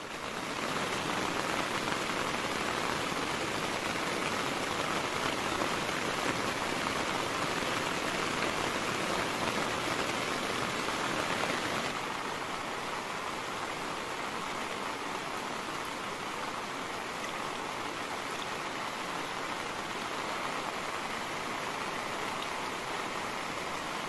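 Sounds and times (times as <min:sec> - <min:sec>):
heavy rain on fabric: 0:00.0 - 0:24.0.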